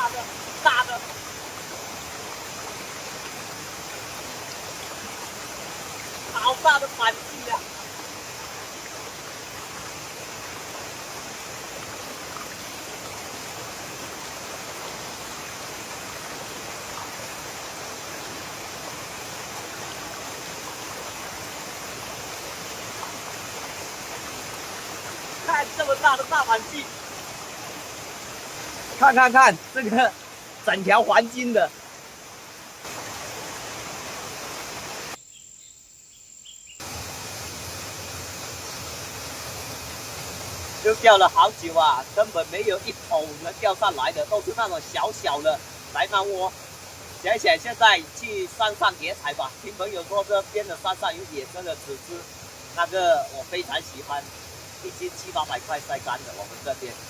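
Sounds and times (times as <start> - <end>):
stream and small waterfall rushing: 0.0 - 35.2, 36.8 - 57.0.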